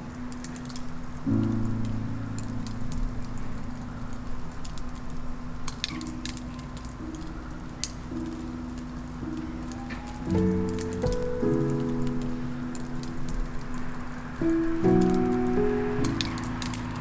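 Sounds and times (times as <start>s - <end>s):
sharp crackles: 0.0s - 17.0s
soft background music: 0.0s - 17.0s.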